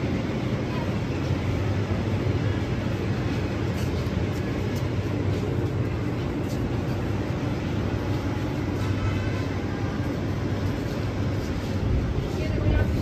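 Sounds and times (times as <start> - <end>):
low machinery hum: 0.0 - 13.0.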